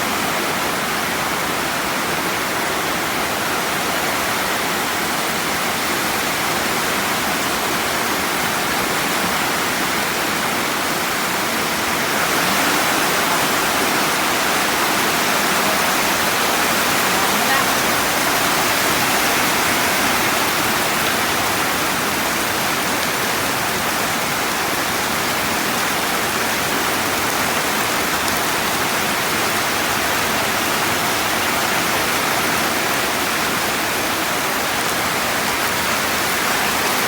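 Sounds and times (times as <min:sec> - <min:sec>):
heavy rain: 0:00.0 - 0:37.0.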